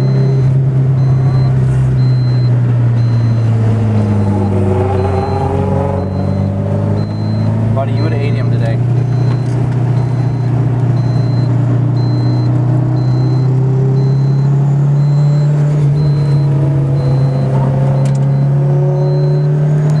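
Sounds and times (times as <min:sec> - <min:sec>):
car engine running hard: 0:00.0 - 0:20.0
faint high beep: 0:01.0 - 0:03.5, 0:04.2 - 0:20.0.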